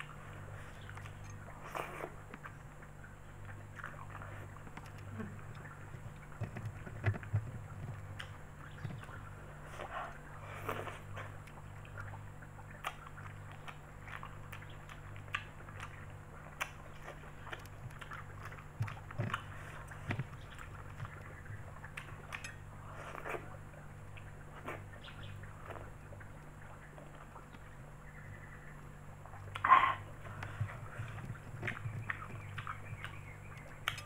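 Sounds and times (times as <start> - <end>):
steady low hum: 0.0 - 34.0
wet chewing and lip smacks: 0.0 - 34.0.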